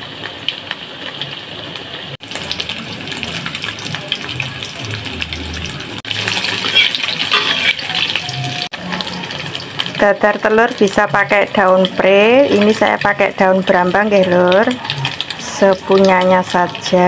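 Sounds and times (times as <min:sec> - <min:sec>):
oil sizzling and popping in a wok: 0:00.0 - 0:17.0.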